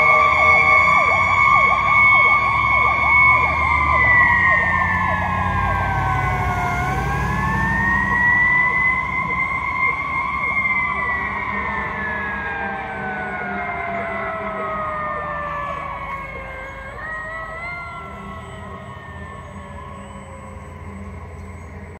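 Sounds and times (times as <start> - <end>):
wailing emergency siren: 0.0 - 21.9.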